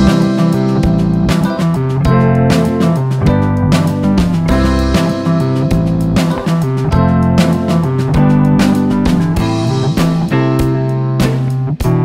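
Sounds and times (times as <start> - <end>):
steady beat: 0.0 - 12.0
strummed guitar: 0.0 - 12.0.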